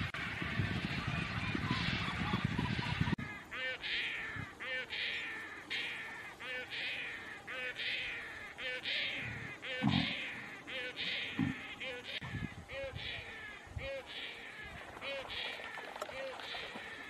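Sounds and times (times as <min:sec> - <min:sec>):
young stork begging call: 0:03.2 - 0:17.0.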